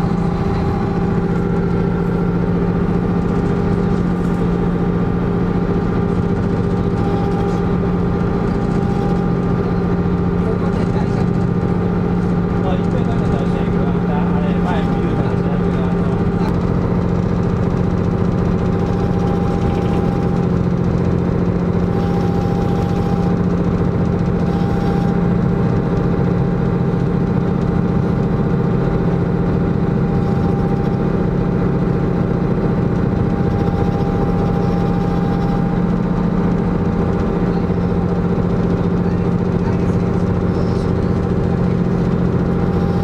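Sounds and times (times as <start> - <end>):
ferry engine drone: 0.0 - 43.0.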